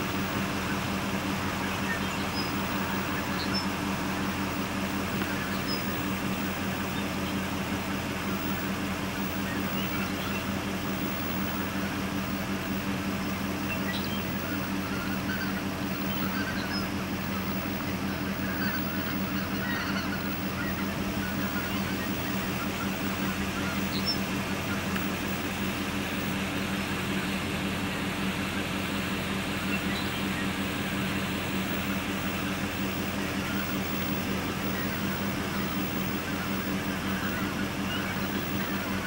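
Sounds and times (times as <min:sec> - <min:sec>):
geese calling: 0:00.0 - 0:39.0
vehicle engine idling: 0:00.0 - 0:39.0.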